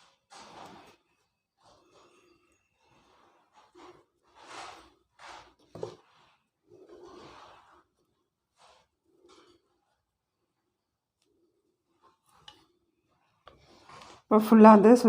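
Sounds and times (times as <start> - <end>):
thread rustling as it is wound: 0.0 - 14.3.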